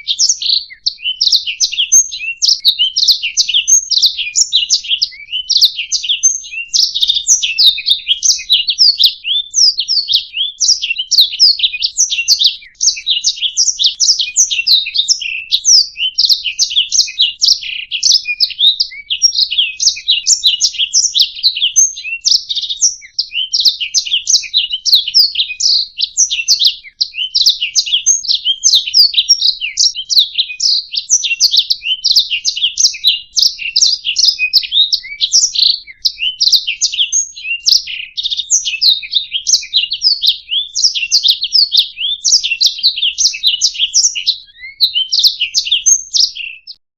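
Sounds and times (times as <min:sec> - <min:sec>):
canary singing chirps and trills: 0:00.0 - 0:46.8.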